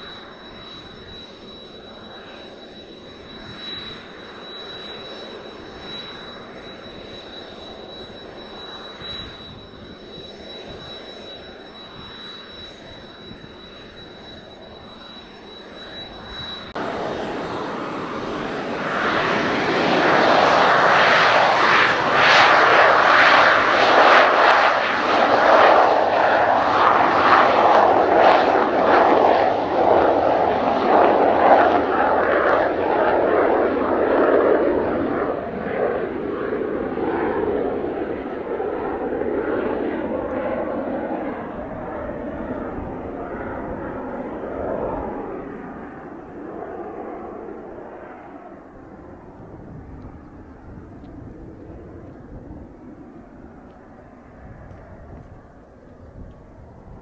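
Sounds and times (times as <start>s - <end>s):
jet engines whining: 0.0s - 57.0s
jet rolling down runway: 0.0s - 57.0s.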